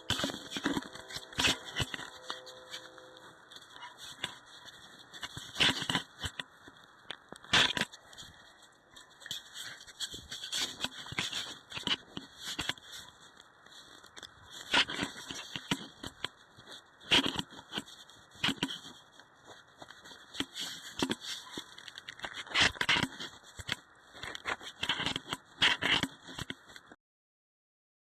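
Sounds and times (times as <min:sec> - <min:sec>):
crunching footsteps: 0:00.0 - 0:26.9.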